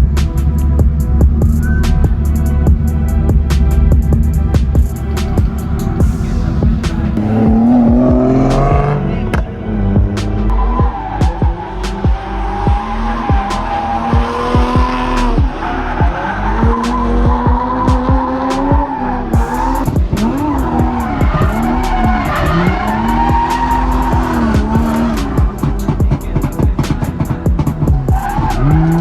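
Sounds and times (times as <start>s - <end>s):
car engine revving: 0.0s - 29.0s
tyres squealing: 0.0s - 29.0s.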